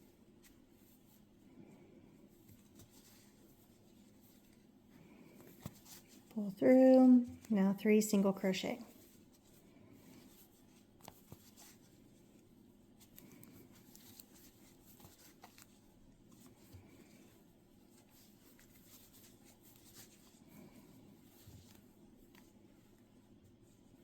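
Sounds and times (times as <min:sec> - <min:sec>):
crochet hook rustling yarn: 0:00.0 - 0:24.0.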